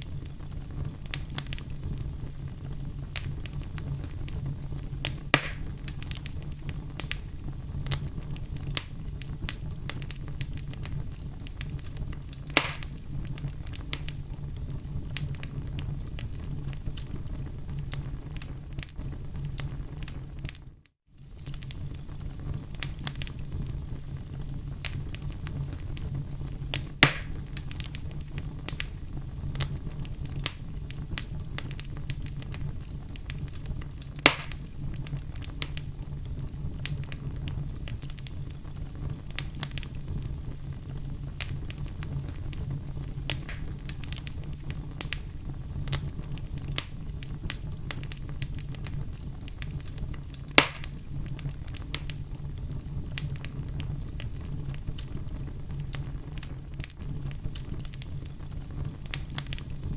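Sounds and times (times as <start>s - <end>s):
sharp pops from fire: 0.0s - 59.9s
wood fire crackling: 0.0s - 59.9s.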